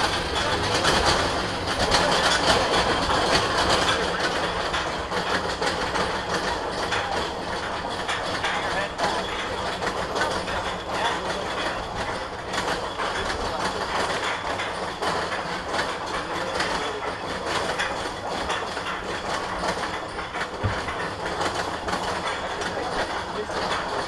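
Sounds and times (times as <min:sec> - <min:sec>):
roller coaster chain lift clacking: 0:00.0 - 0:24.0.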